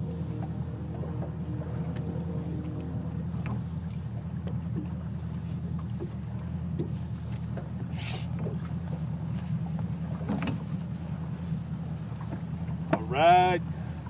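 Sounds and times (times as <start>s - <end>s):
boat low hum: 0.0s - 14.0s.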